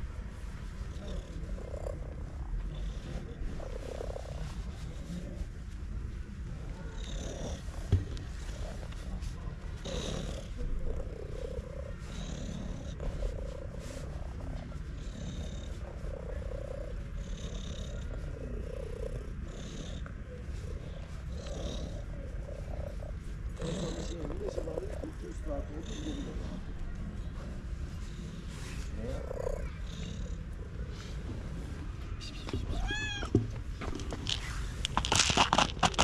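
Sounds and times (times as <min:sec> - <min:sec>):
cat purring loudly: 0:00.9 - 0:05.6, 0:06.6 - 0:26.7, 0:27.8 - 0:31.2, 0:34.2 - 0:36.0.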